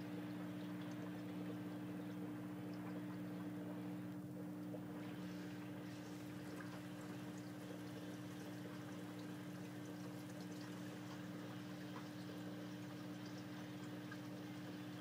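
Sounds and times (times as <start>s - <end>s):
water trickling into fish tank: 0.0s - 15.0s.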